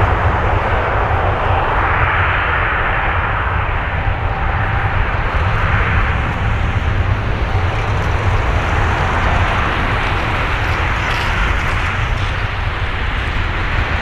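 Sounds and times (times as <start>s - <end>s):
jet engines at high thrust: 0.0s - 14.0s.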